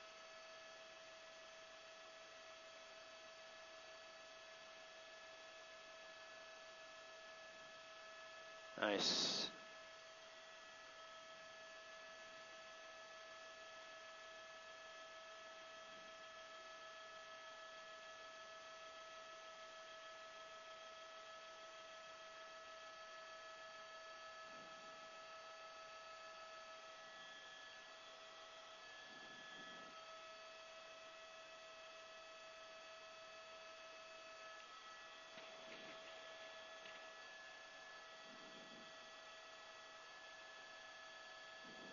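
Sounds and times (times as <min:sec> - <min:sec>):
faint electrical hum: 0:00.0 - 0:41.9.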